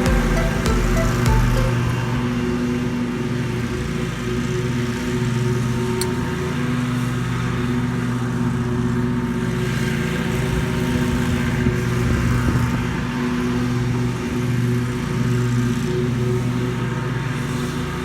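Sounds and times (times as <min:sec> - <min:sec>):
small petrol engine running: 0:00.0 - 0:18.0.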